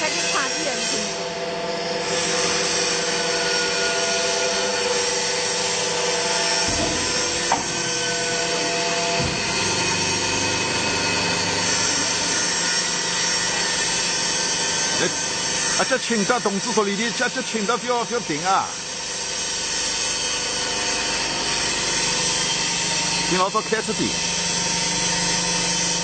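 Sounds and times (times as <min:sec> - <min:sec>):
machine motor whine: 0:00.0 - 0:26.0.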